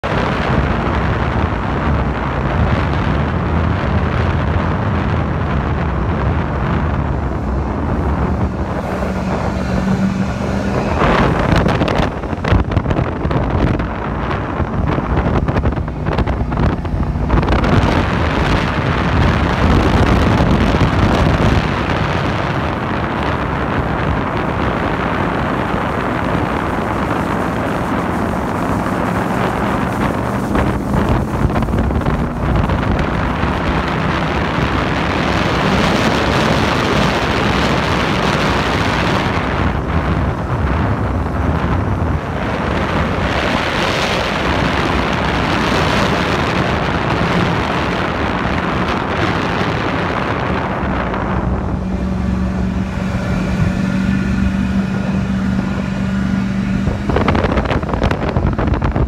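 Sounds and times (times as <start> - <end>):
motorboat engine running: 0.0 - 59.0
wind buffeting microphone: 0.0 - 59.0.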